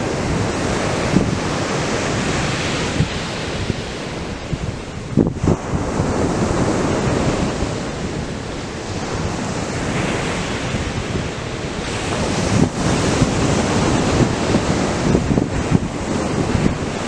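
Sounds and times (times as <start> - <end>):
ocean surf breaking on beach: 0.0 - 17.0
wind buffeting microphone: 0.0 - 17.0.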